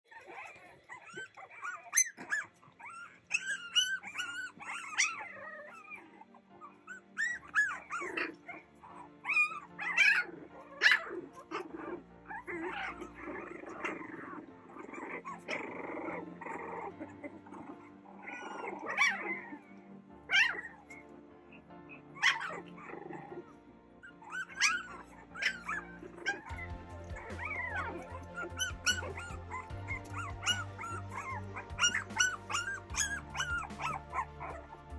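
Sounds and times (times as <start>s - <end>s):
background music: 0.1s - 34.9s
puppies yipping and whining: 0.1s - 34.9s.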